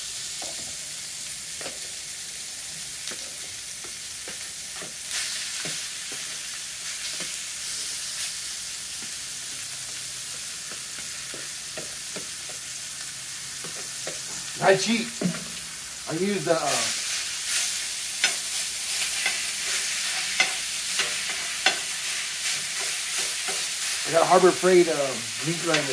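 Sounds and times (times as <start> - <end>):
chicken and onions sizzling on griddle: 0.0 - 25.9.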